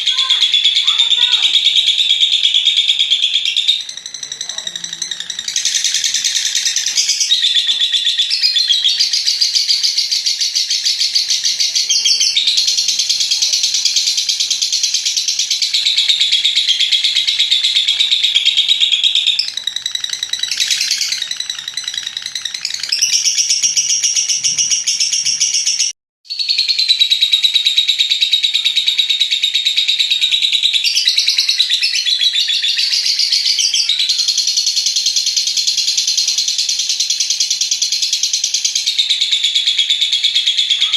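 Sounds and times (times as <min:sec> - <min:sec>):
lovebird shrill chattering song: 0:00.0 - 0:40.9.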